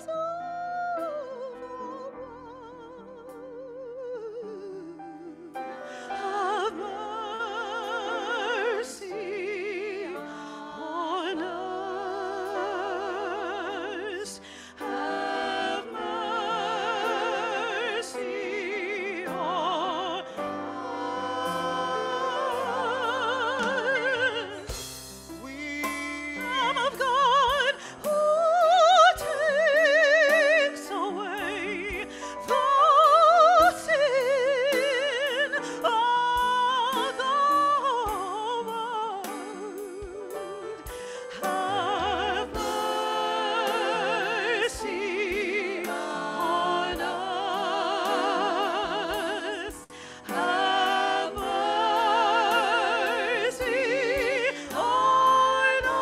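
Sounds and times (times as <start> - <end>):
piano: 0.0 - 56.0
singers with strong vibrato: 1.3 - 40.2, 41.0 - 56.0.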